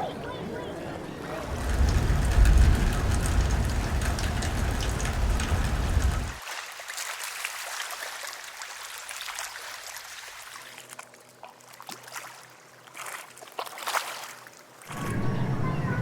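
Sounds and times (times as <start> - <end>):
water trickling and dripping: 1.4 - 14.9.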